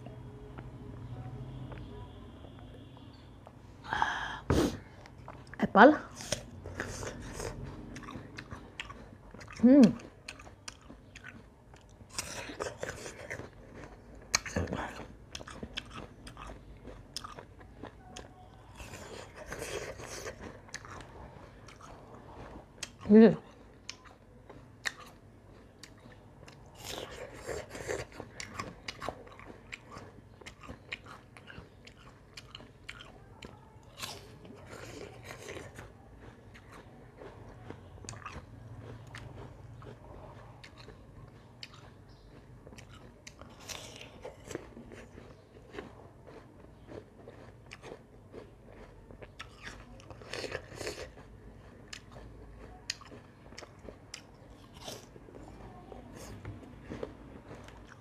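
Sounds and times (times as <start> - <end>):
chewing: 4.9 - 58.0.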